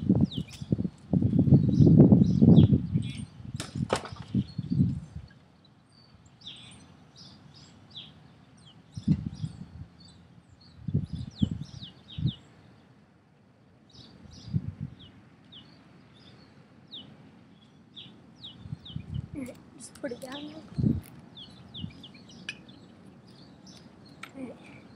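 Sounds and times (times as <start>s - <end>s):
small birds chirping: 0.1s - 13.0s, 13.8s - 24.9s.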